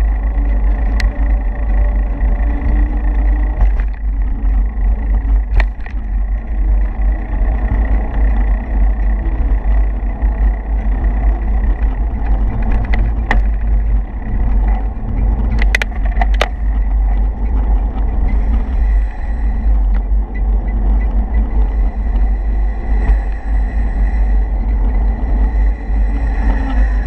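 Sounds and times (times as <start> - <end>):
road rumble: 0.0 - 27.0
sharp rattling clicks: 0.0 - 27.0
wind buffeting microphone: 0.0 - 27.0.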